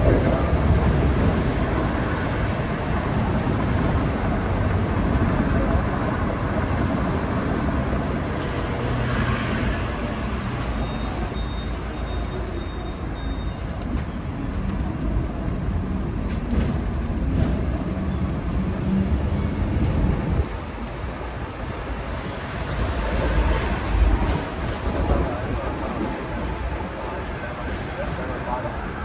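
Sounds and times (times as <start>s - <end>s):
road traffic: 0.0s - 29.0s
tram rumbling and rattling: 0.0s - 29.0s.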